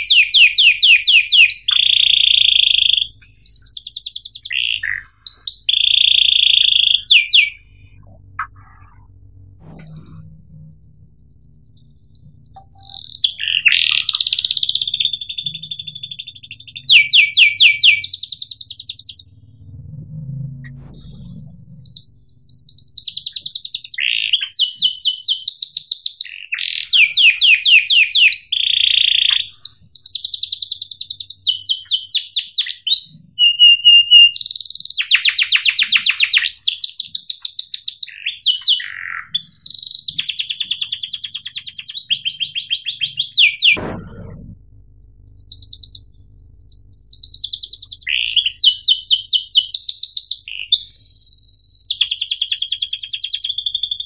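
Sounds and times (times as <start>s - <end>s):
canary singing chirps and trills: 0.0s - 20.0s, 20.7s - 54.0s.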